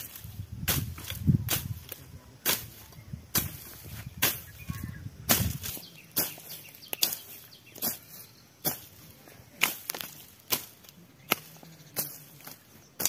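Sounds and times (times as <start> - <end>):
sickle swishing through weeds: 0.0 - 13.0.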